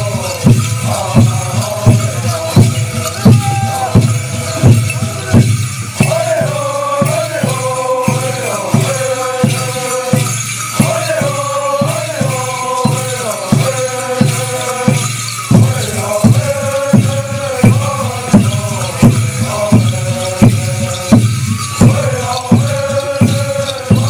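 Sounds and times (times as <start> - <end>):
group of singers chanting: 0.0 - 24.0
rattles and bells jingling: 0.0 - 24.0
steady drumbeat: 0.0 - 24.0.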